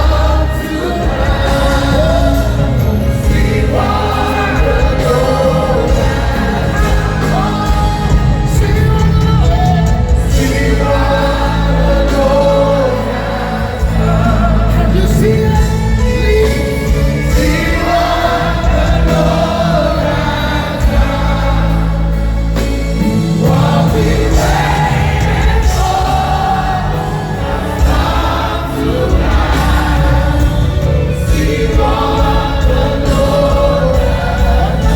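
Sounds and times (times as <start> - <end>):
band with steady bass: 0.0 - 34.9
choir singing gospel: 0.0 - 34.9.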